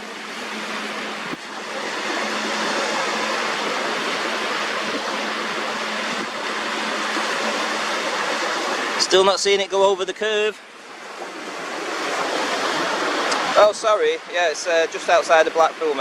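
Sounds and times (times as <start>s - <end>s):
sea water washing ashore: 0.0s - 16.0s.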